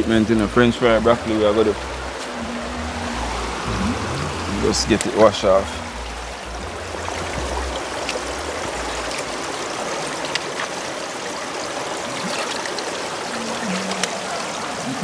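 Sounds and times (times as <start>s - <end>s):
stream water running over rocks: 0.0s - 15.0s.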